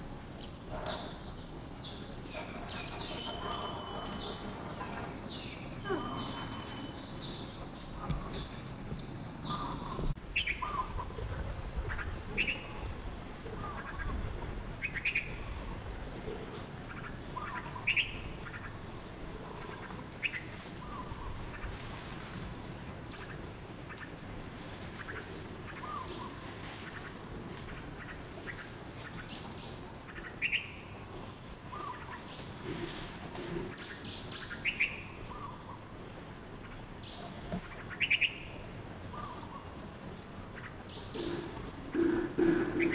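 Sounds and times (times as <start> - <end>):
insect drone: 0.0 - 42.9.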